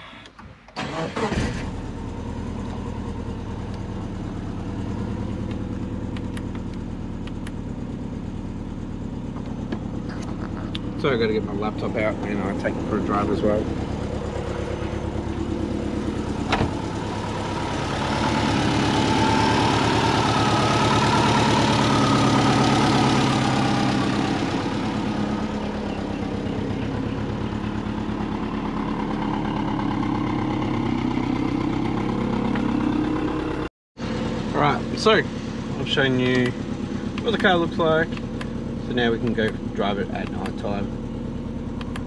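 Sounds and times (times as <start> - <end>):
car engine idling: 0.3 - 42.0.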